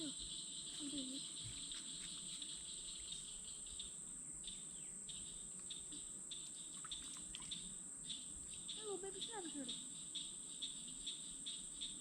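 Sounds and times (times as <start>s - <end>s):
high-pitched insect trill: 0.0s - 12.0s
low cricket chirping: 0.0s - 12.0s.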